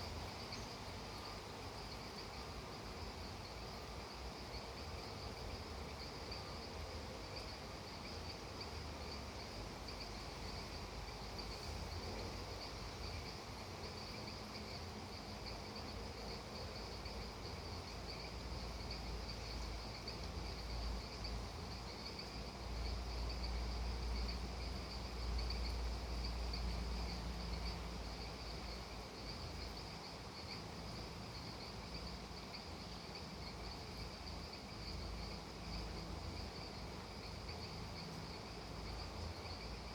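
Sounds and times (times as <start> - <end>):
insect chorus trilling: 0.0 - 6.6, 7.2 - 39.9.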